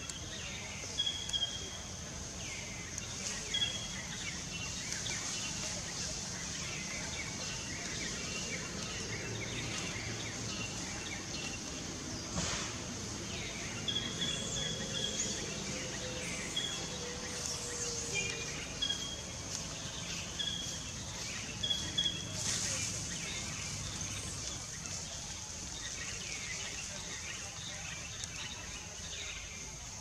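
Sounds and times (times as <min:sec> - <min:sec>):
insects hissing: 0:01.0 - 0:26.6.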